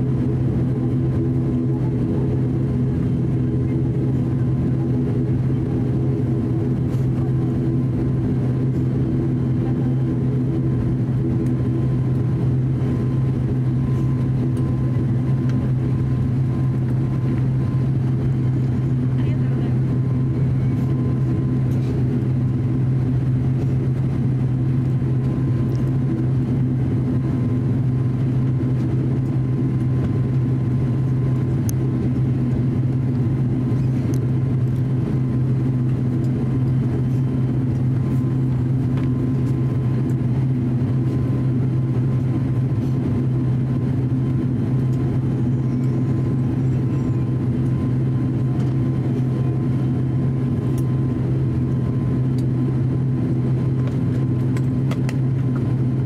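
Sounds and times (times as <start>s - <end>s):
faint engine whine: 0.0s - 56.0s
turboprop engines humming: 0.0s - 56.0s.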